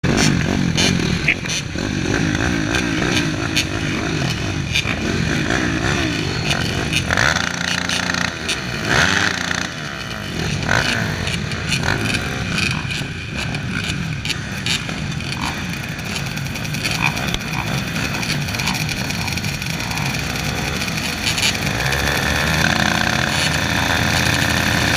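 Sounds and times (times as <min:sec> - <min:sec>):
motocross bikes revving: 0:00.0 - 0:24.9.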